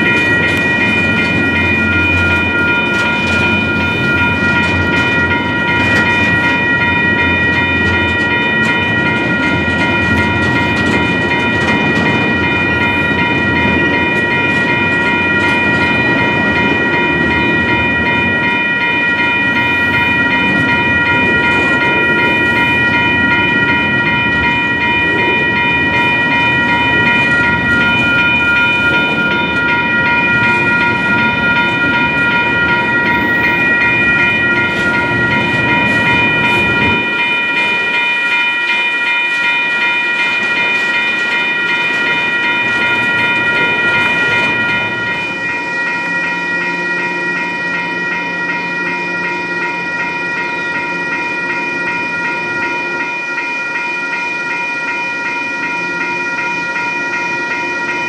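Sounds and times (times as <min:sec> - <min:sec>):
crossing bells ringing: 0:00.0 - 0:58.0
train wheels rumbling and clacking: 0:00.0 - 0:58.0.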